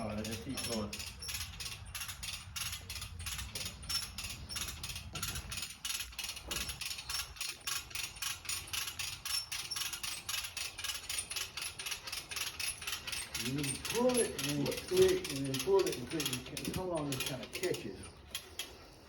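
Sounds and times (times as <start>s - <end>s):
hand winch ratchet clicking: 0.0s - 19.0s.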